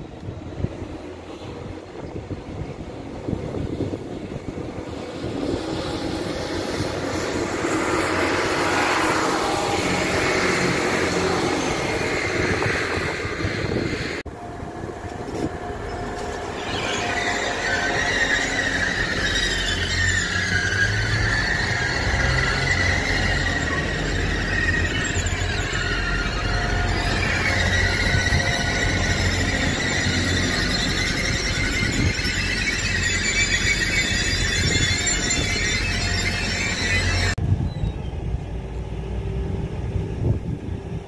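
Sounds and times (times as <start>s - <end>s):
passenger train rumble: 0.0s - 41.0s
train wheels squealing: 1.2s - 14.2s, 15.2s - 38.3s.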